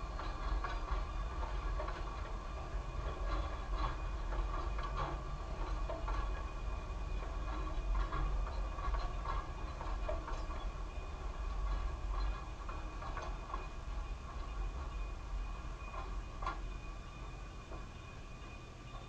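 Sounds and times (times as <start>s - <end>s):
train coaches rumbling past: 0.0s - 19.0s
wheels clicking on rails: 0.0s - 19.0s.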